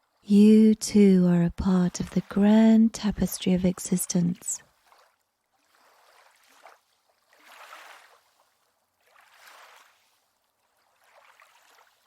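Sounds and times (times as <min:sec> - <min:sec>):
gentle lake water: 0:00.0 - 0:12.0.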